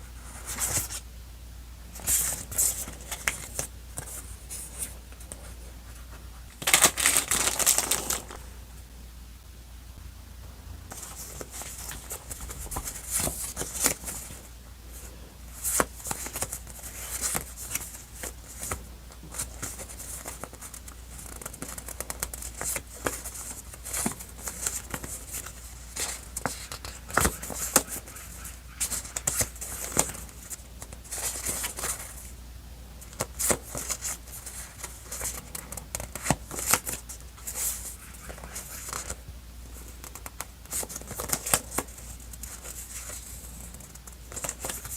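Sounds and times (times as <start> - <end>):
paper rustling: 2.0 - 8.4, 10.9 - 15.0, 15.6 - 32.3, 33.1 - 39.2, 39.8 - 44.9.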